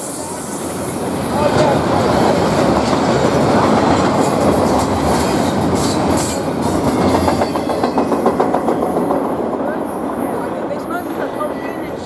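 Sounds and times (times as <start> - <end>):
train wheels rushing on rail: 0.0 - 12.0
wheels clickety-clack over rail joints: 0.6 - 12.0.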